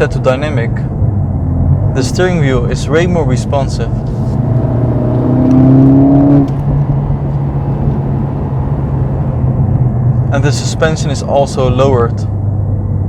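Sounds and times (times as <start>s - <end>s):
car engine accelerating: 0.7s - 11.3s.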